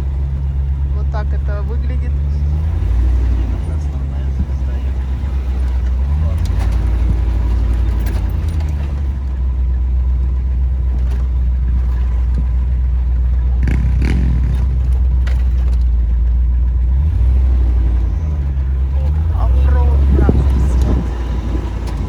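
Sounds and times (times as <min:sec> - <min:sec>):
car engine driving slowly: 0:00.0 - 0:22.0
road rumble: 0:00.0 - 0:22.0.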